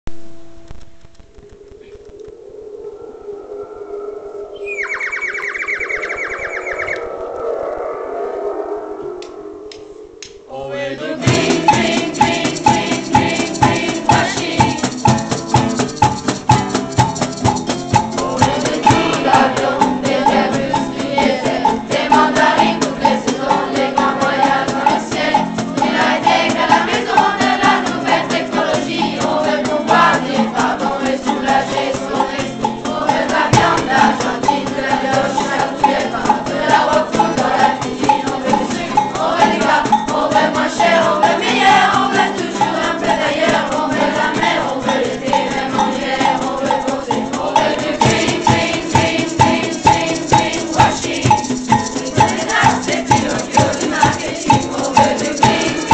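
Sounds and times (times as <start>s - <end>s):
children singing: 10.5s - 55.9s
acoustic guitar: 10.8s - 55.9s
maracas shaking: 11.0s - 55.9s.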